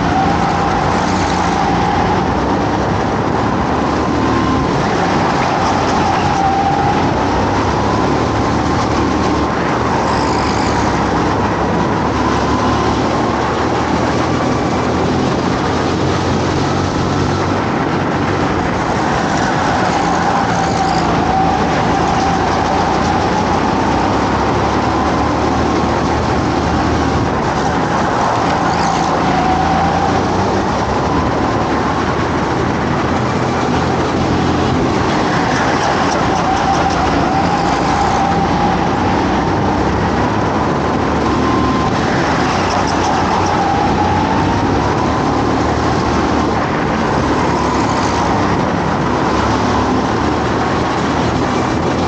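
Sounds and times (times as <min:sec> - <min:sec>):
go-kart engine revving: 0:00.0 - 0:52.0.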